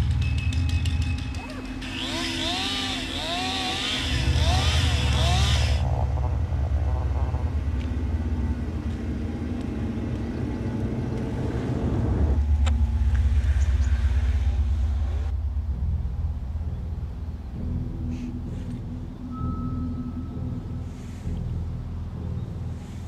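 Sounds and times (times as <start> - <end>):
engine low steady rumble: 0.0 - 23.0.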